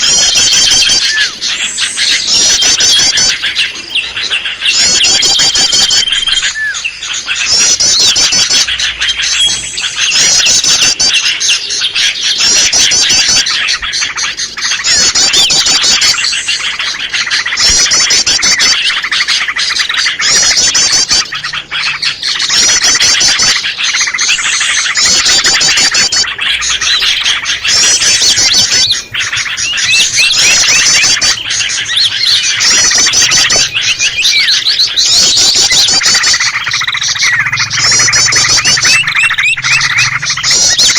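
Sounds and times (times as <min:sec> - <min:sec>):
high rapid bird trill: 0:00.0 - 0:40.9
songbirds chirping: 0:00.0 - 0:40.9.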